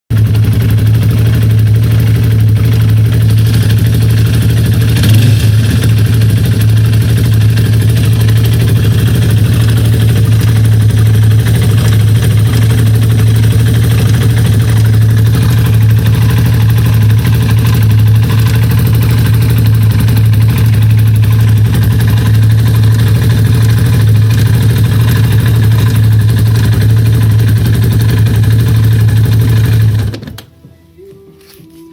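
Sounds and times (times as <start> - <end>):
quad engine idling: 0.1 - 30.4
odd engine noise: 0.1 - 30.5.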